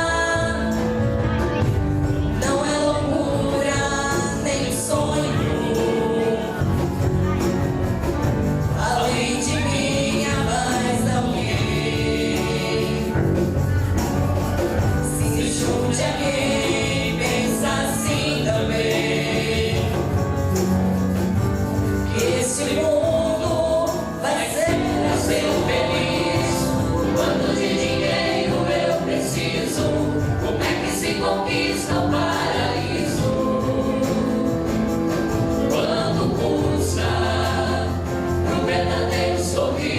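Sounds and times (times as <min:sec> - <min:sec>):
choir singing: 0:02.3 - 0:13.7, 0:14.5 - 0:20.7, 0:22.1 - 0:39.9.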